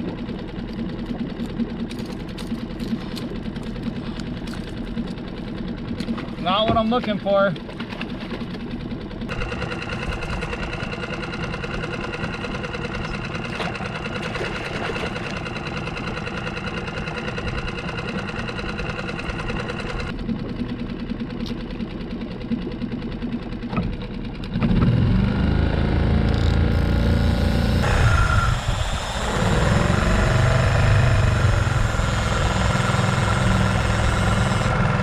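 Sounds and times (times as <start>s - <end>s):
outboard motor running: 0.0s - 35.0s
steady whine: 0.0s - 35.0s.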